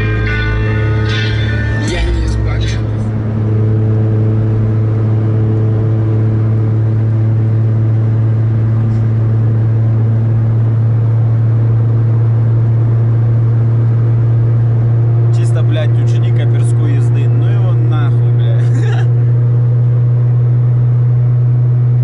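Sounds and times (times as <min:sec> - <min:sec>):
car exhaust drone: 0:00.0 - 0:22.0.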